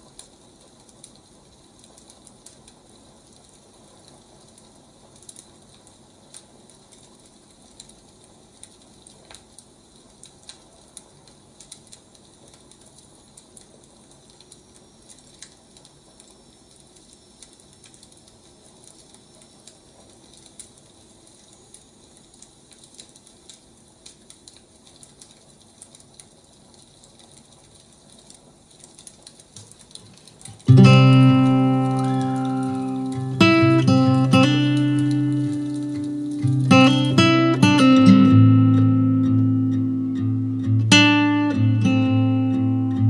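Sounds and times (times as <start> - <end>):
low hiss: 0.0 - 43.0
wood fire crackling: 0.0 - 43.0.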